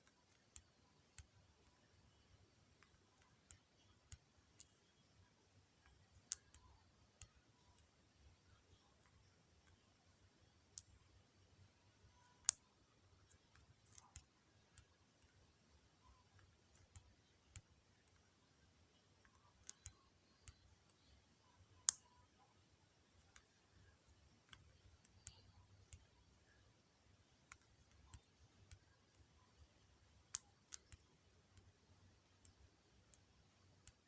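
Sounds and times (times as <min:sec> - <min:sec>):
faint clicks: 0:00.0 - 0:34.0.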